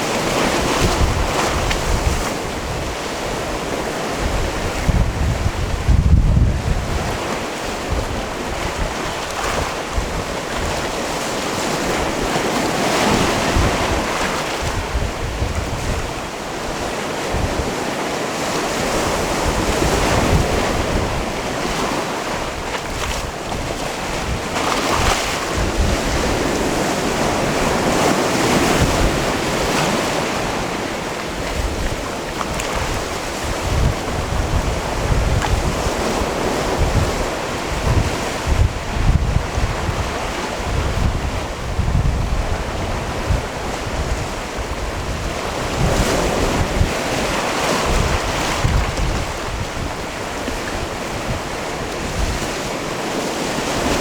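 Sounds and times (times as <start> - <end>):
waves washing onto rocky shore: 0.0 - 54.0
wind rumbling on microphone: 0.0 - 54.0.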